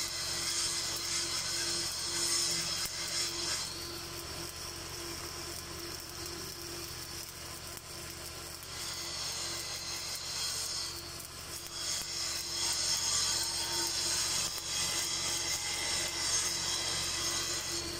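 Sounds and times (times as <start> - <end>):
welding arc crackling sizzle: 0.0 - 17.9.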